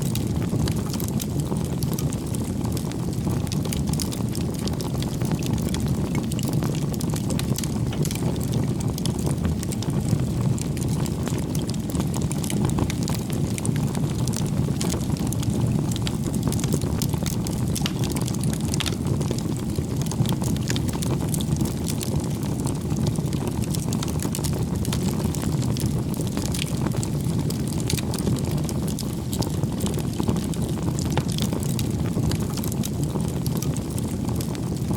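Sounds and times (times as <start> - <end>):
burning wood crackling: 0.0 - 34.9
campfire flames rushing: 0.0 - 34.9.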